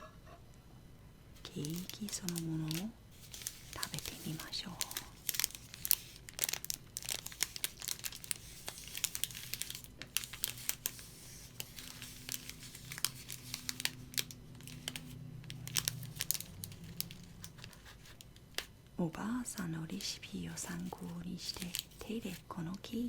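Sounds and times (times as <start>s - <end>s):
paper crinkling and rustling: 1.4s - 18.7s, 19.6s - 22.5s.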